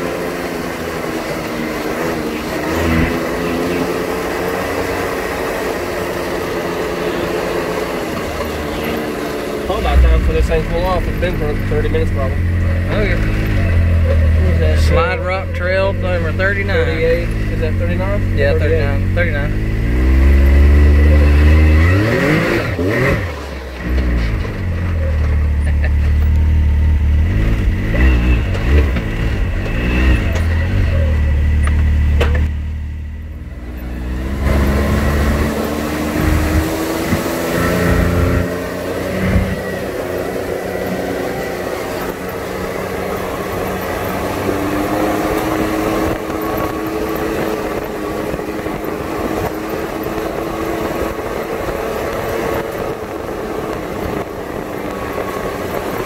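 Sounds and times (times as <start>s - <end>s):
engine running under load: 0.0s - 56.0s.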